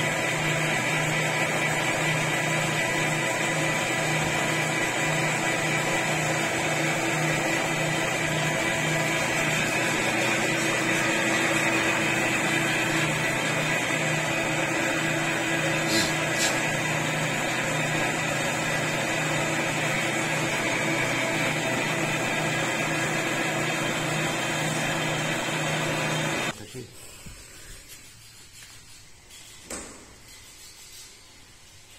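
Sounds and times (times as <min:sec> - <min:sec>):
metal lathe humming and whining: 0:00.0 - 0:26.6.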